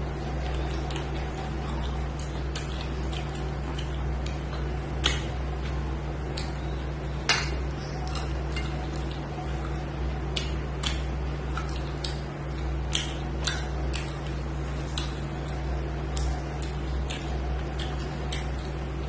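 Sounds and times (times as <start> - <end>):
steady low hum: 0.0 - 19.0
chewing and mouth smacks: 0.2 - 19.0.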